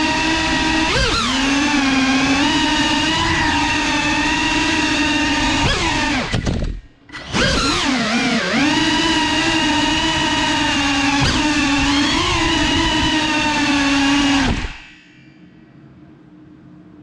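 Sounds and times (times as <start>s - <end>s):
drone motors and propellers whining: 0.0s - 16.2s.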